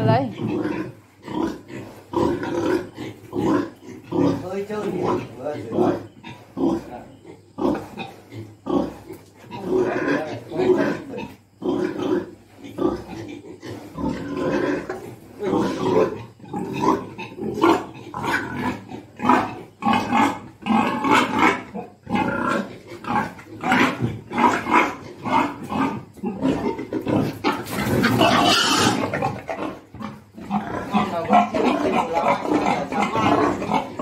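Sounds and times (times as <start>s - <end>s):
pigs grunting: 0.0s - 34.0s.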